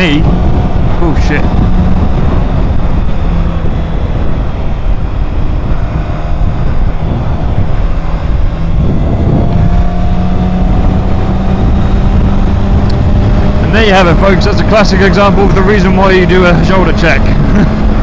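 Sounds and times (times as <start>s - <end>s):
motorcycle engine running: 0.0s - 18.0s
wind rush on microphone: 0.0s - 18.0s.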